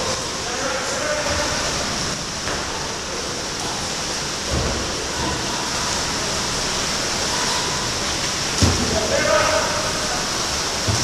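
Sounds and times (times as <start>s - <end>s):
water splashing under paddles: 0.0s - 11.0s.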